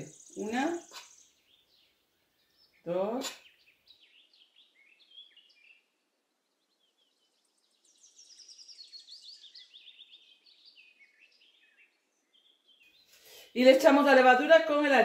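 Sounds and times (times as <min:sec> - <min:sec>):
faint birdsong chirps: 0:00.0 - 0:14.8.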